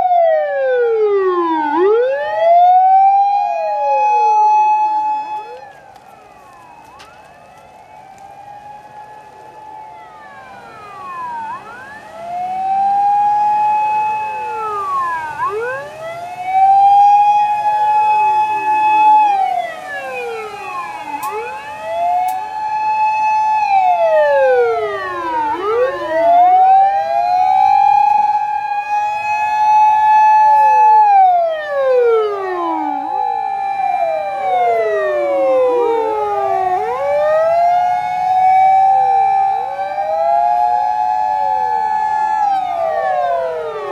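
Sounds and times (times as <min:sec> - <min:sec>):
emergency vehicle sirens wailing: 0:00.0 - 0:43.9.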